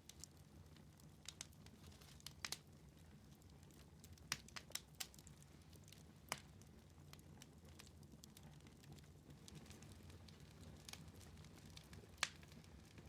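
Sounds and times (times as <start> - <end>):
fire pops and snaps: 0.0 - 2.7, 3.4 - 13.0
wood fire crackling: 0.0 - 13.0.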